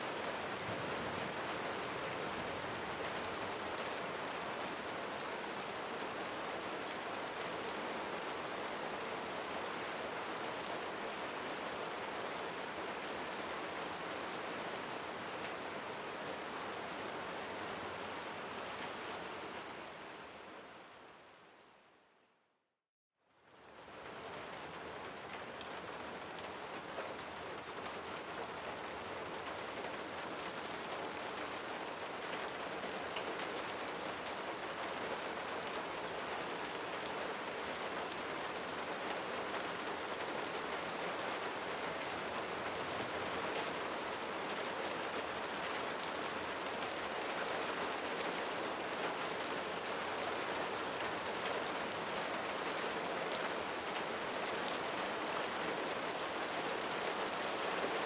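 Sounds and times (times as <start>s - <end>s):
rain falling: 0.0s - 21.6s, 23.5s - 58.0s.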